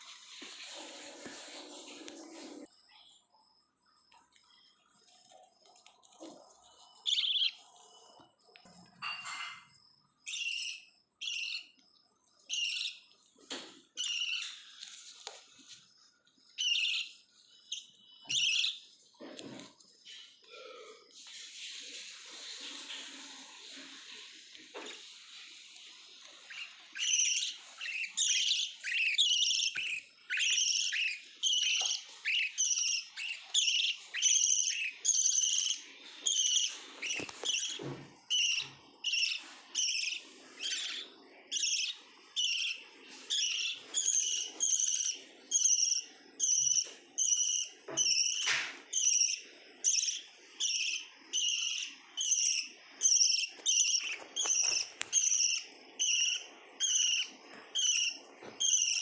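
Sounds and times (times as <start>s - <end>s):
lovebird chirping: 6.2s - 15.2s, 16.4s - 19.1s, 21.4s - 59.0s.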